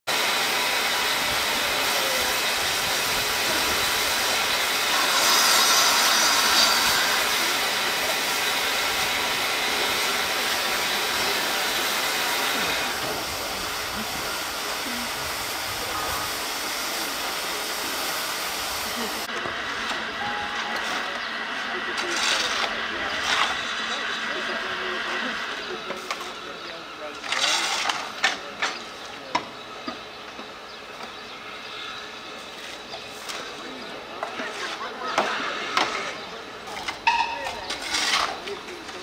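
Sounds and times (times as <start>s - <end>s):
steam locomotive hissing: 0.1s - 39.0s.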